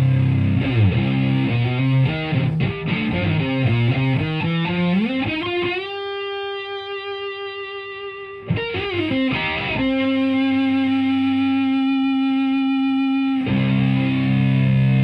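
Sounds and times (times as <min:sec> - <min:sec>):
fuzzed electric guitar lead: 0:00.0 - 0:15.0.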